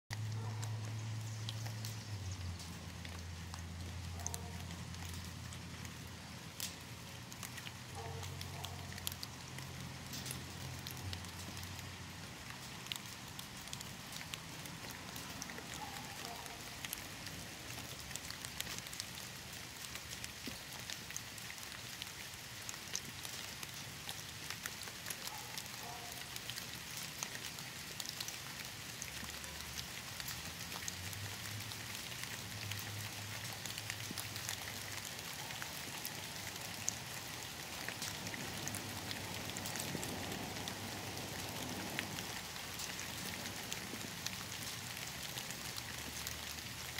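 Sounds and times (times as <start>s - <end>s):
raindrops ticking: 0.1s - 46.9s
steady rainfall: 0.1s - 46.9s.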